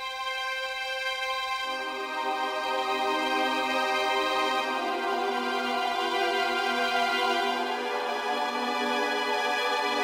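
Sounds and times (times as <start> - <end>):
music of slow held chords: 0.0 - 10.0.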